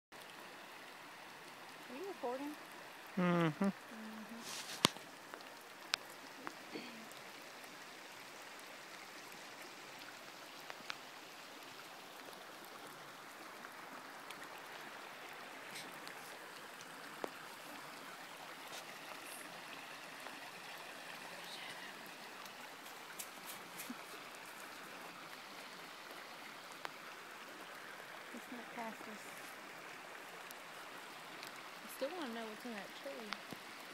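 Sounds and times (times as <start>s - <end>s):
creek water over stones: 0.1s - 33.9s.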